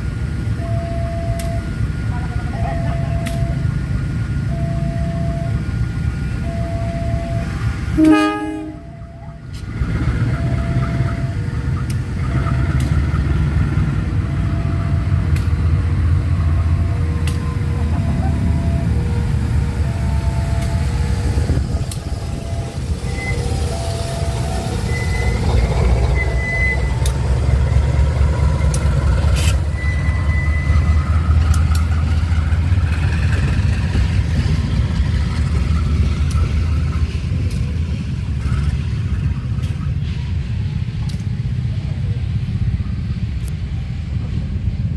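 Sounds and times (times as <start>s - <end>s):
locomotive engine rumbling: 0.0s - 44.9s.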